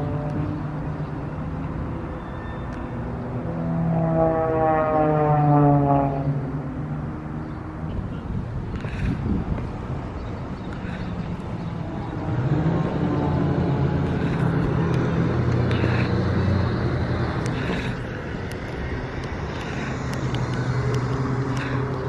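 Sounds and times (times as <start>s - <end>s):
low engine drone: 0.0s - 22.0s
outdoor background noise: 0.0s - 22.0s.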